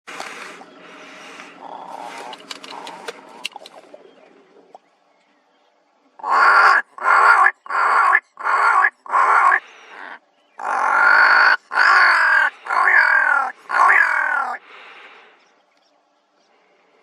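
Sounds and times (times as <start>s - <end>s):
ravens calling: 0.1s - 4.8s, 6.2s - 15.4s.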